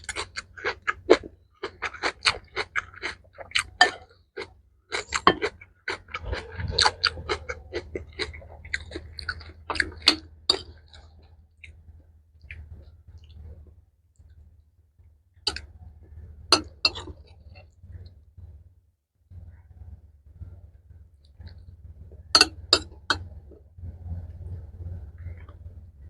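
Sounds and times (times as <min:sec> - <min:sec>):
close chewing of food: 0:00.0 - 0:14.6, 0:15.5 - 0:18.6, 0:21.2 - 0:26.0.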